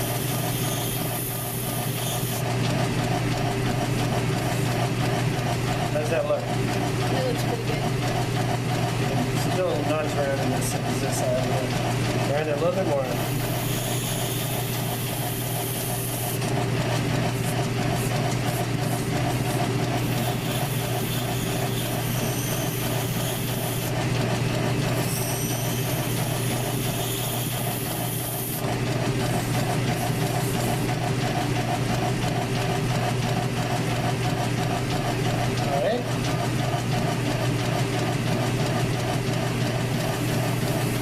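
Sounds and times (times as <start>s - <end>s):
high-pitched lathe cutting noise: 0.0s - 37.1s, 37.7s - 41.0s
lathe motor hum: 0.0s - 41.0s
pulsing drive whir: 0.0s - 41.0s.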